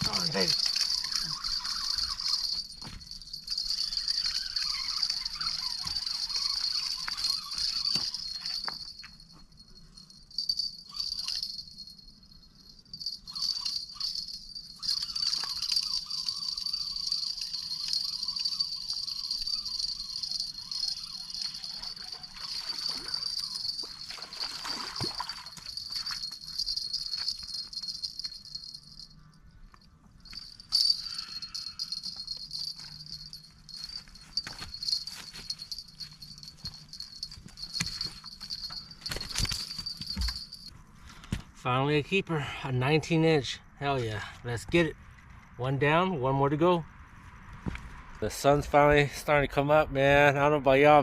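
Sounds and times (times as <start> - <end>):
crickets chirring: 0.0 - 41.2.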